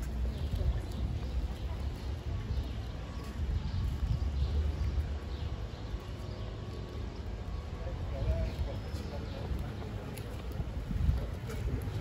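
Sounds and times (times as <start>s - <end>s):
footsteps on pavement: 0.0s - 12.0s.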